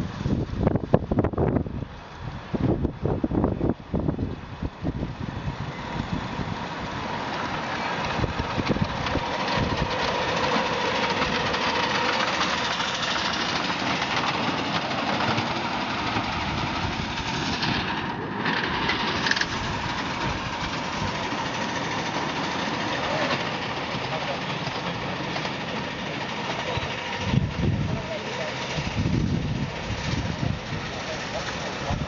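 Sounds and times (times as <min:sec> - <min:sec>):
miniature steam locomotive running: 0:00.0 - 0:32.0
steam hissing: 0:01.8 - 0:32.0.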